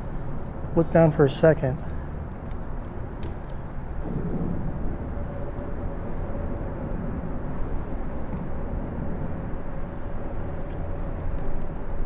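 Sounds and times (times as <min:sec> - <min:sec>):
faint steady hum: 0:00.0 - 0:12.0
traffic rumble on bridge: 0:00.0 - 0:12.0.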